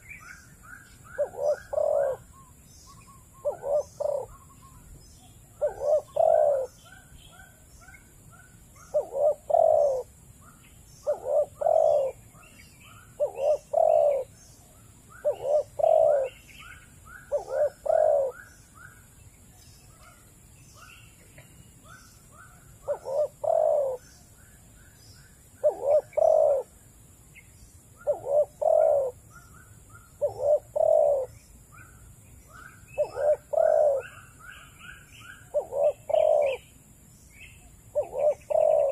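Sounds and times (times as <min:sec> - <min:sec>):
dove cooing: 0:00.0 - 0:14.4, 0:15.1 - 0:18.6, 0:20.0 - 0:24.2, 0:25.6 - 0:26.8, 0:28.0 - 0:36.7, 0:37.9 - 0:38.9.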